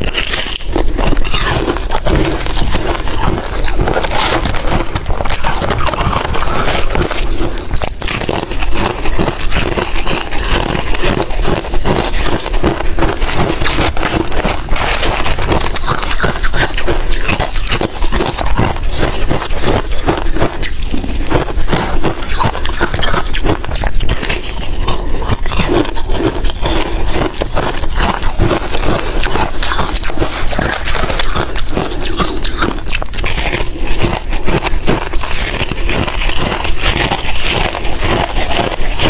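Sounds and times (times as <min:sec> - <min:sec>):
ice being chewed: 0:00.0 - 0:39.0.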